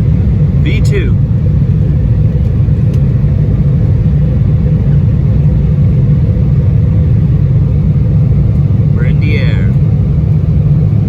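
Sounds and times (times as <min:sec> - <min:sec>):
jet engines deep rumble: 0:00.0 - 0:11.0.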